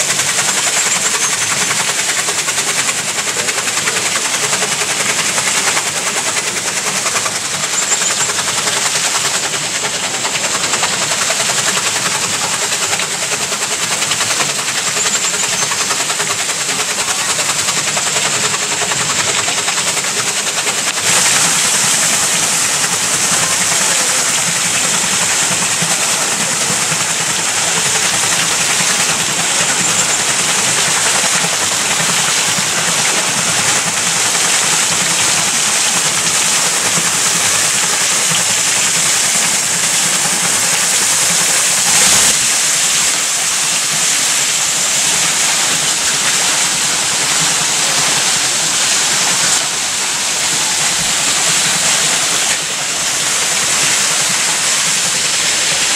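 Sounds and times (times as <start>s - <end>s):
water wheel splashing: 0.0s - 55.9s.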